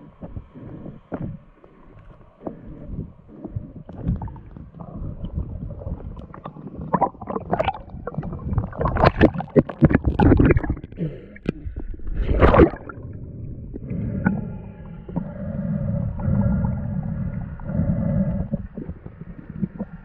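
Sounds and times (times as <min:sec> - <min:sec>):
water rushing against camera: 0:00.0 - 0:11.0, 0:11.7 - 0:20.0
bubbles gurgling underwater: 0:03.3 - 0:20.0.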